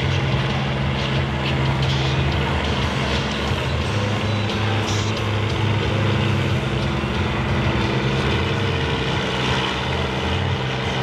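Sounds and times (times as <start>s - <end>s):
combine harvester engines droning: 0.0s - 11.0s.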